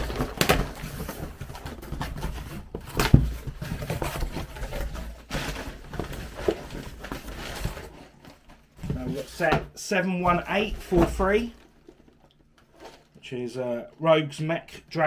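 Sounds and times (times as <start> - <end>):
cardboard boxes being handled: 0.0 - 13.1.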